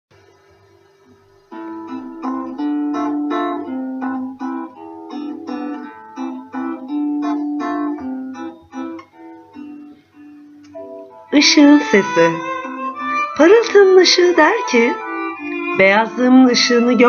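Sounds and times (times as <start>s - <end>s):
acoustic guitar melody: 0.2s - 17.0s.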